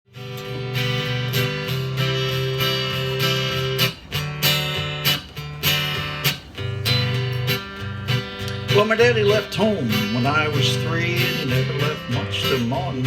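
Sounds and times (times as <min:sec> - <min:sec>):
acoustic guitar strumming: 0:00.1 - 0:13.0.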